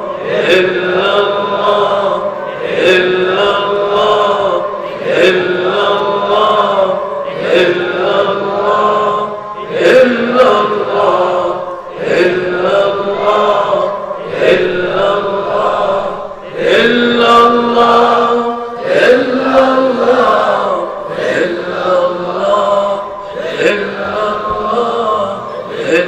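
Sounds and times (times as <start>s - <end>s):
devotional chanting: 0.0s - 26.0s.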